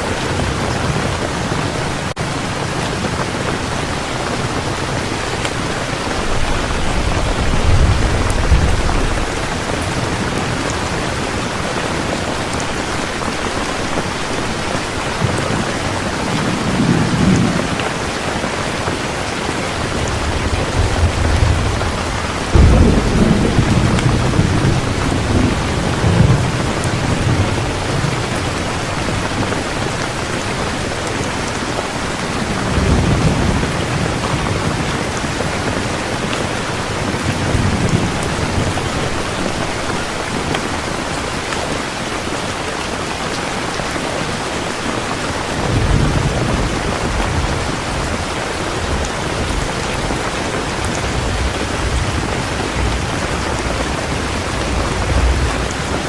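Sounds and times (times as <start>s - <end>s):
thunder rumbling: 0.0s - 40.8s, 45.4s - 56.0s
heavy rain falling: 0.0s - 56.0s.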